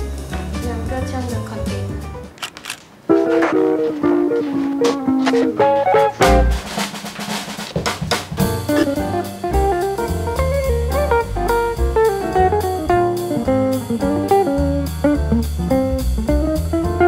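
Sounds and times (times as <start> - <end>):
guitar-led instrumental music: 0.0 - 6.8, 8.4 - 17.0.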